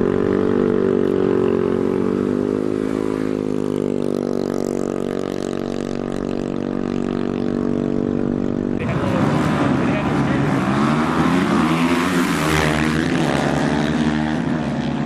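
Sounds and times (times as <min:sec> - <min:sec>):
small motorbike engine revving: 0:00.0 - 0:15.0.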